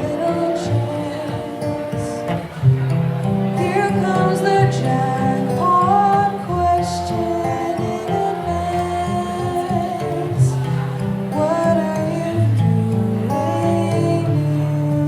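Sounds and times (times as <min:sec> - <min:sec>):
acoustic guitar slow song: 0:00.0 - 0:15.0.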